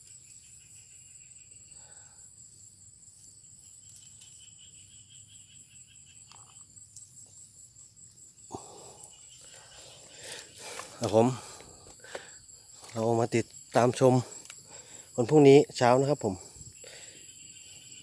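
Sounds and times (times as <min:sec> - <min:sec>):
high unbroken insect trill: 0:00.0 - 0:18.0
pulsing cricket chirp: 0:00.0 - 0:18.0.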